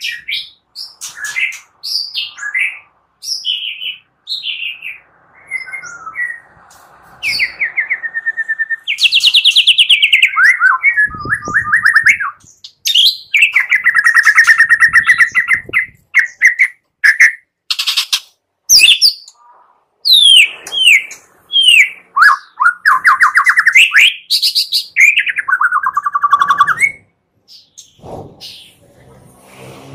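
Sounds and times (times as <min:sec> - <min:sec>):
bird singing trills and whistles: 0:00.0 - 0:06.5, 0:07.2 - 0:28.8.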